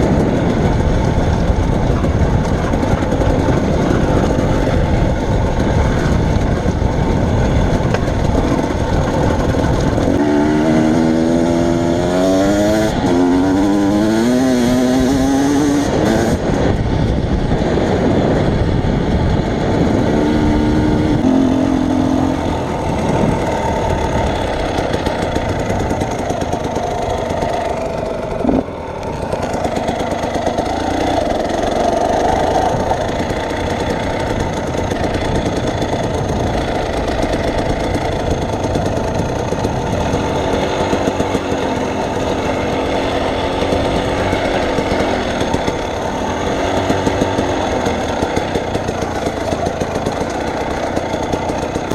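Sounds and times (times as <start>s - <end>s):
vehicle engine rumbling: 0.0s - 51.9s.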